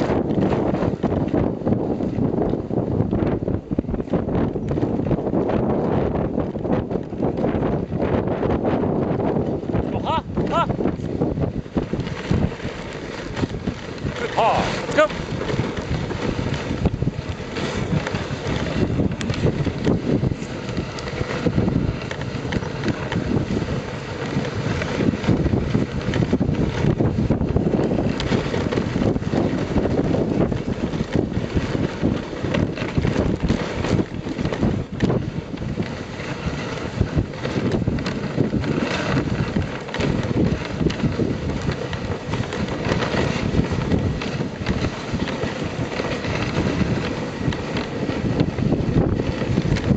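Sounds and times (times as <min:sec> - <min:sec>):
sled knocks and rattles: 0:00.0 - 0:49.9
sled sliding over snow: 0:00.0 - 0:49.9
wind on the microphone: 0:00.0 - 0:49.9.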